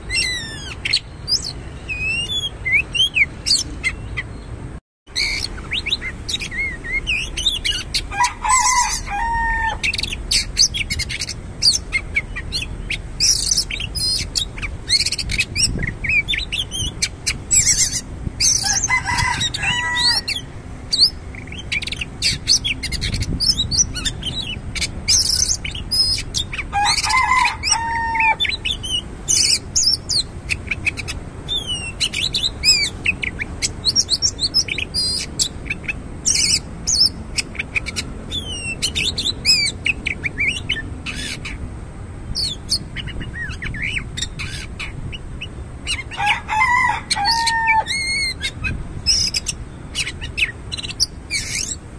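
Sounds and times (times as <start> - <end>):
magpie-robin chirps and whistles: 0.0 - 4.4, 5.1 - 41.6, 42.4 - 46.2, 47.0 - 51.8.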